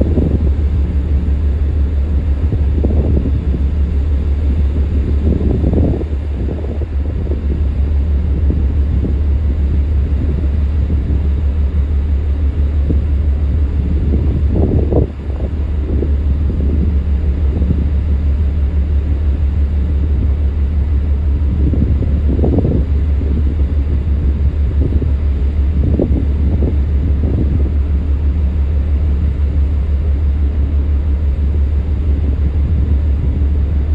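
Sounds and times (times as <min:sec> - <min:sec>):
low rumble: 0:00.0 - 0:33.9
wind gusting over microphone: 0:00.0 - 0:33.9.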